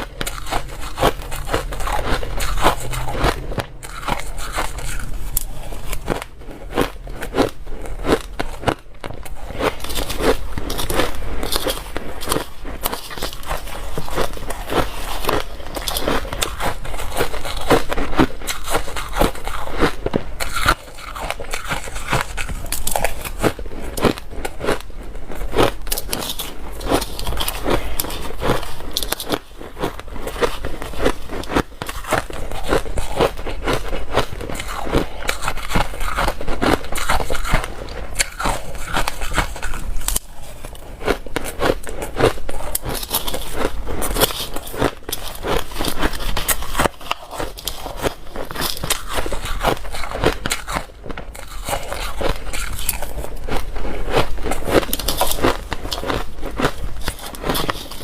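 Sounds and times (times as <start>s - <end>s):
crunching ice: 0.0s - 58.0s.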